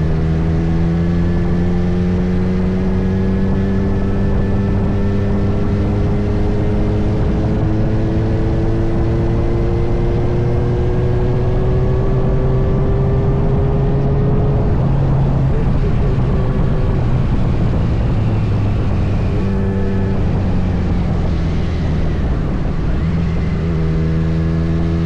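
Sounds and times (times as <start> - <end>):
motorcycle engine climbing in pitch: 0.0 - 25.0.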